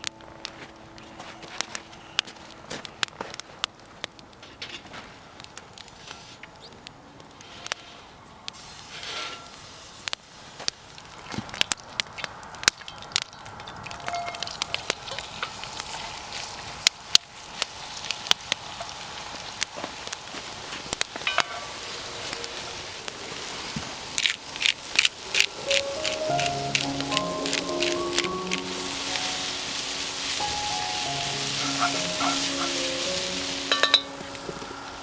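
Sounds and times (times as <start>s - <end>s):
campfire crackling and popping: 0.0s - 35.0s
low fire hiss: 0.0s - 35.0s.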